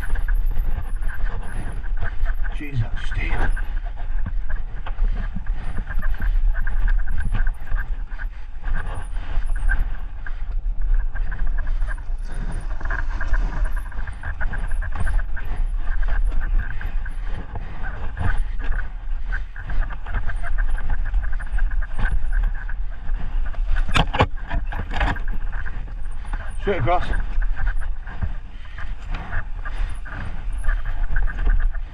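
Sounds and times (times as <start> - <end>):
bike rattling over bumps: 0.0 - 31.9
bike tyres rolling over dirt: 0.0 - 31.9
wind rumble on microphone: 0.0 - 31.9.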